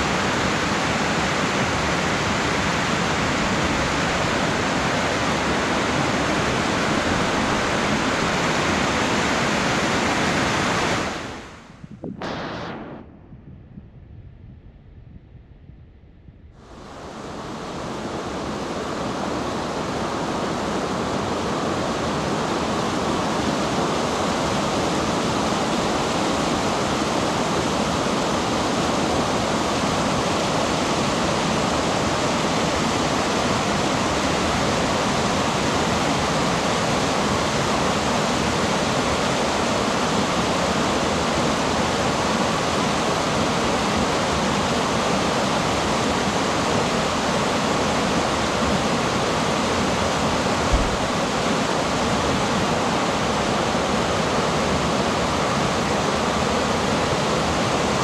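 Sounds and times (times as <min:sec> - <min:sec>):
stream rushing over boulders: 0:00.0 - 0:11.5, 0:16.7 - 0:58.0.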